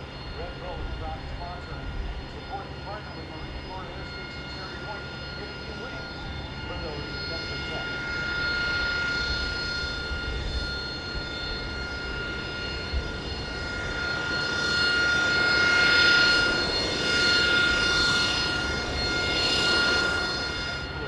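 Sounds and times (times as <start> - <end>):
jet engine high-pitched whine: 0.0 - 21.0.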